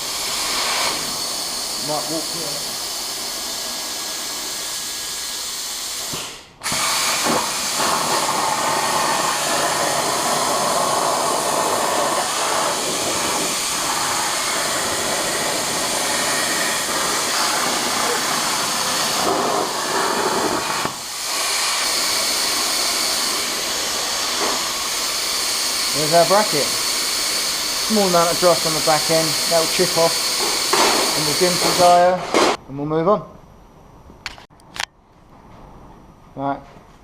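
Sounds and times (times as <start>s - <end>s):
plasma torch hissing: 0.0s - 32.6s.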